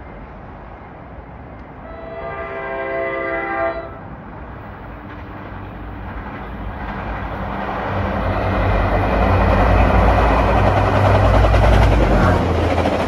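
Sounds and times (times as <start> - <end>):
train engine drone: 0.0 - 13.0
train wheels rumbling on rail: 0.0 - 13.0.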